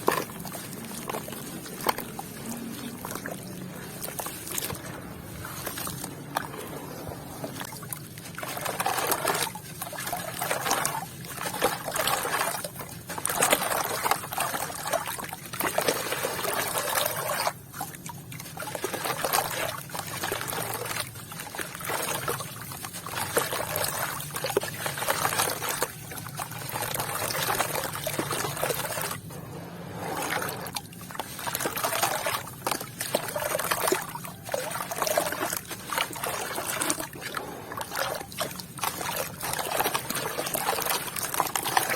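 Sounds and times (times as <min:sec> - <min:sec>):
water trickling through wet sand: 0:00.0 - 0:29.4, 0:30.0 - 0:41.9.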